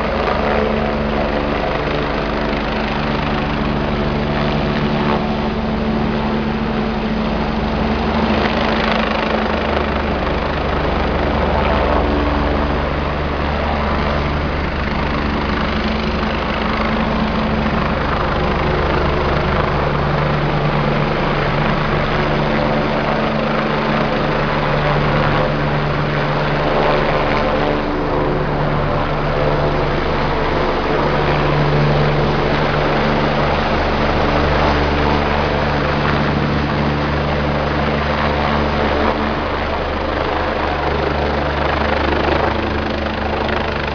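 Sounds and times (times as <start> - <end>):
helicopter rotor and turbine: 0.0 - 43.9
low hum: 0.0 - 43.9.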